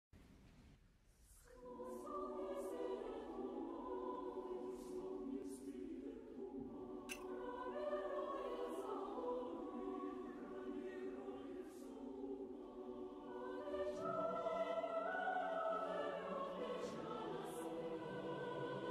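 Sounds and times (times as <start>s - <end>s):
choir singing held chords: 1.6s - 18.9s.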